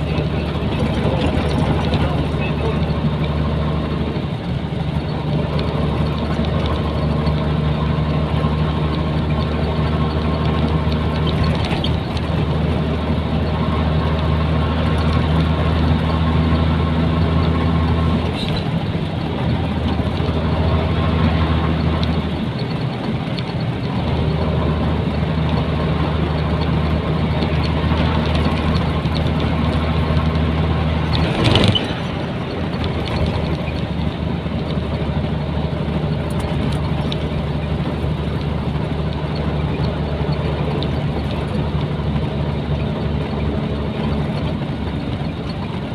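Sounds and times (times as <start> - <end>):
diesel truck engine running: 0.0 - 45.9
road noise: 0.0 - 45.9.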